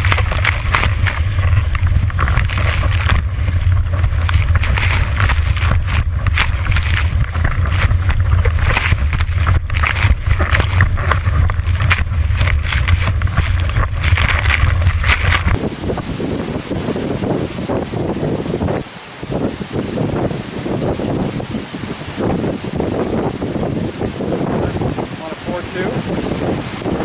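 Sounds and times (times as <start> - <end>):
water spray and chop splashing: 0.0 - 27.0
wind buffeting camera: 0.0 - 27.0.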